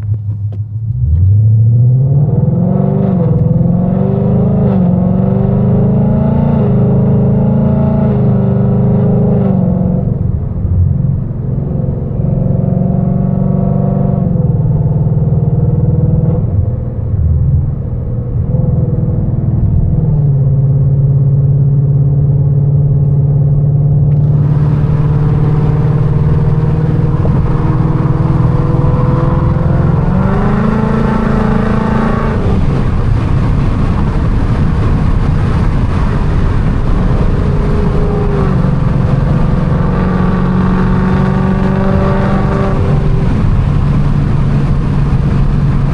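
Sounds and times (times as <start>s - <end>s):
car engine revving hard: 1.0s - 16.8s, 24.1s - 45.9s.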